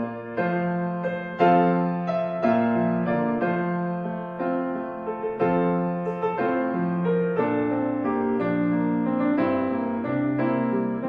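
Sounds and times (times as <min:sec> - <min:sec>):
piano playing hymn chords: 0:00.0 - 0:11.0.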